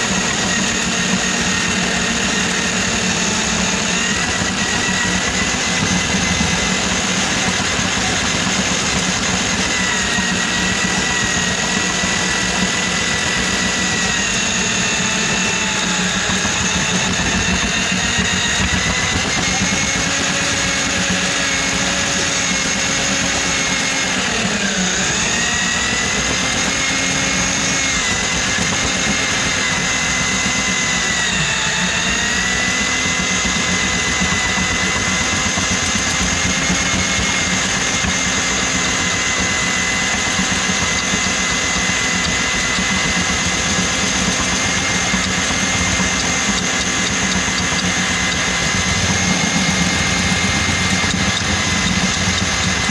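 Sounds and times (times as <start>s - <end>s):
electric drain auger running: 0.0s - 52.9s.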